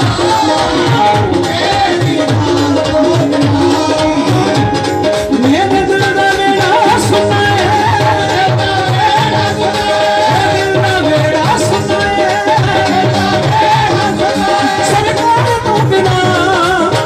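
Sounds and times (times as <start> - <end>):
barrel drum rhythm: 0.0 - 17.0
person singing: 0.0 - 17.0.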